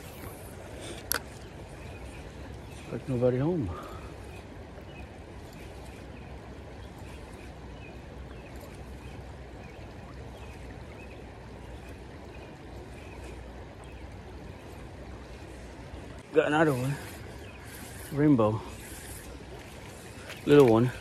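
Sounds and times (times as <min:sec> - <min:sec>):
creek water flowing: 0:00.0 - 0:21.0.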